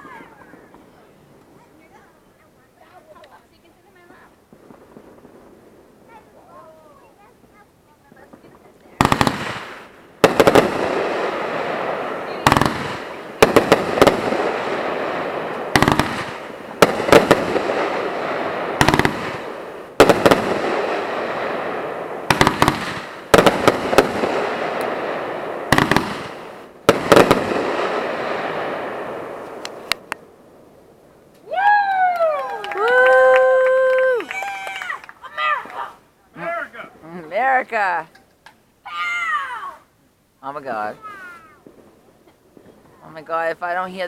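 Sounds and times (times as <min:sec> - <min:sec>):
fireworks crackling hiss: 0:00.0 - 0:31.8, 0:32.8 - 0:44.0
fireworks bangs: 0:00.0 - 0:38.6, 0:40.4 - 0:44.0.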